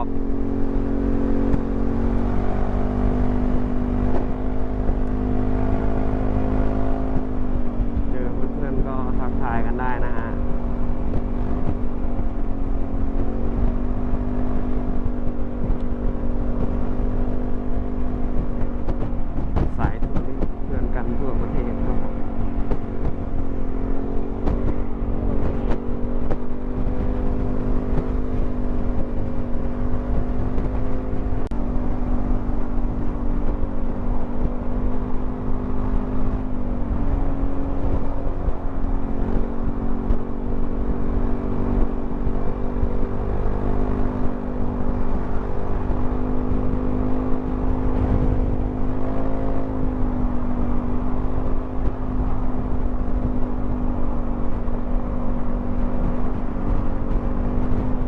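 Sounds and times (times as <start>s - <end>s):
scooter engine cruising: 0.0s - 58.0s
wind and road rumble: 0.0s - 58.0s.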